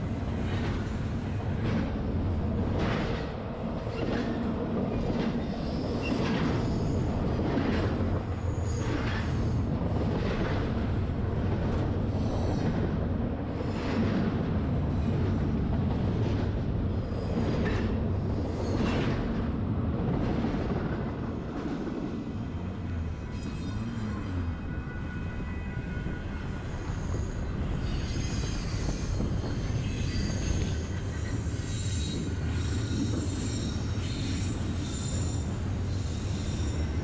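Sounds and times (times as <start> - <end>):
train wheel squeal: 0.0 - 11.1, 11.7 - 15.5, 16.3 - 19.7, 20.5 - 37.0
freight train rumbling: 0.0 - 37.0.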